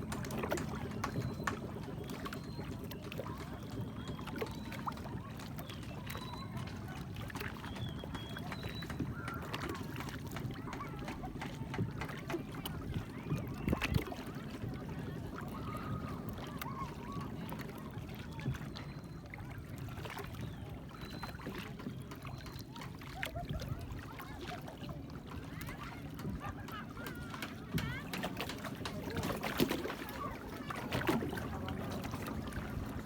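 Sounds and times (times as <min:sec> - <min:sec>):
boat motor rumbling: 0:00.0 - 0:33.0.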